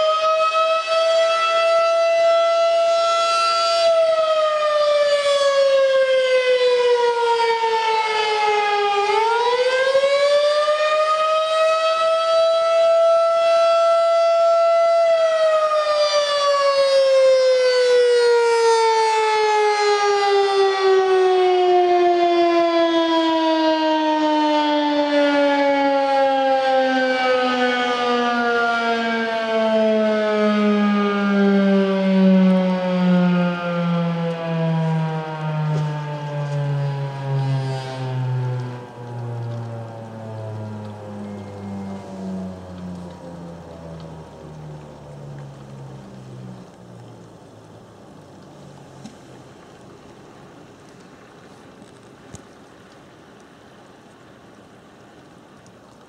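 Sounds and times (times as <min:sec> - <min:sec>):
tornado siren: 0:00.0 - 0:56.0.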